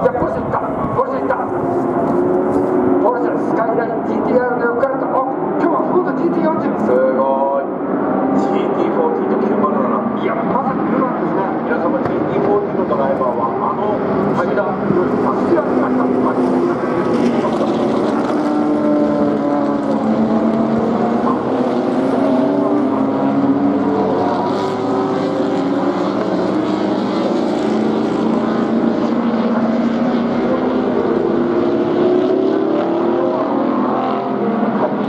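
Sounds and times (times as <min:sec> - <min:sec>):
racing car engines: 0:00.0 - 0:35.0.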